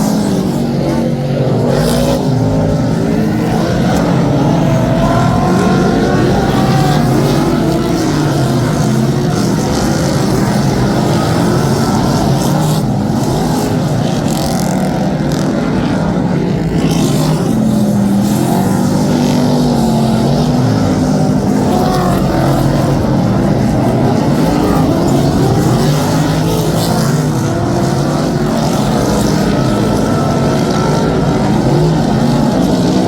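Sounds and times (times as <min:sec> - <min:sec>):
race car engines roaring: 0:00.0 - 0:33.0.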